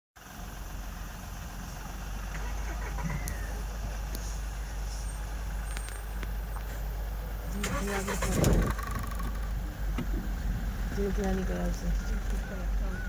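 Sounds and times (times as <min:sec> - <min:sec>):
vehicle engine idling: 0:00.2 - 0:13.0.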